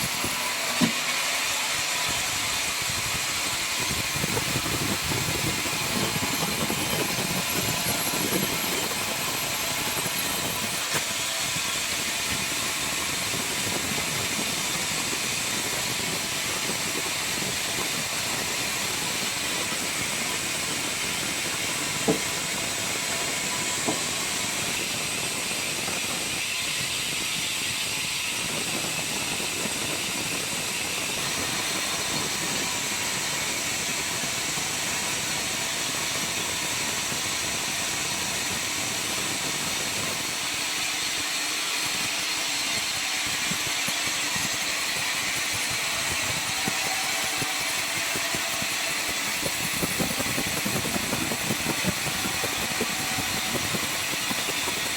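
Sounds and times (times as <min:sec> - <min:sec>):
sawmill machinery hissing: 0:00.0 - 0:54.9.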